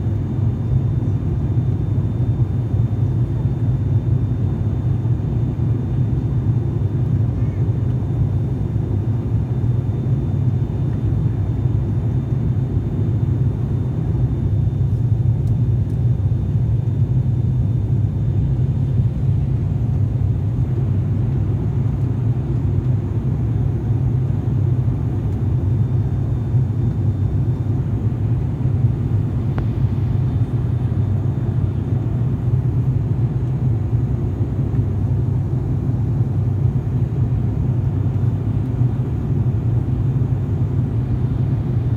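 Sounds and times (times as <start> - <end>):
airliner engine drone in cabin: 0.0 - 41.9.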